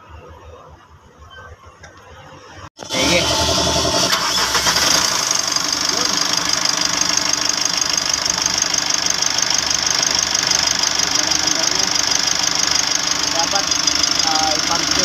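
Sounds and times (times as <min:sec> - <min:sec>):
diesel engine idling: 0:02.8 - 0:15.0.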